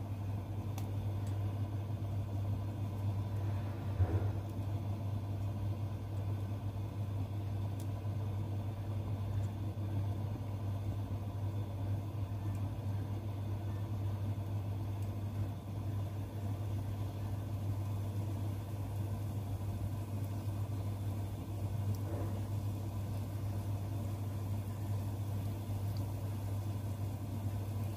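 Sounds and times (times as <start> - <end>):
food frying in oil: 0.0 - 27.9
steady low hum: 0.0 - 27.9.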